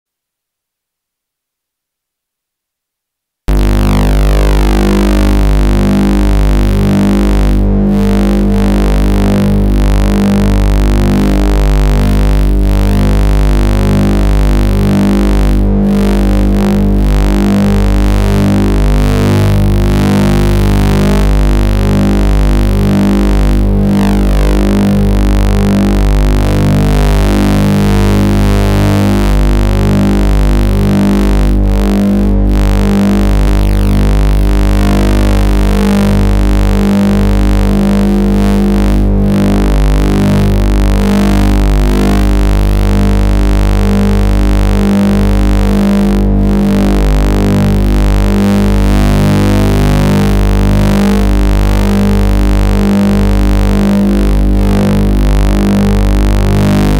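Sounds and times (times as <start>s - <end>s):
deep steady drone: 3.5s - 56.9s
electronic synthesizer tones: 3.5s - 56.9s.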